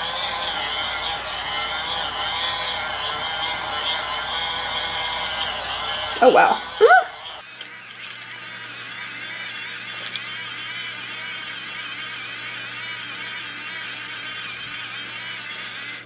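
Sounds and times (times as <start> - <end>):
toy washing machine motor whirring: 0.0 - 16.0.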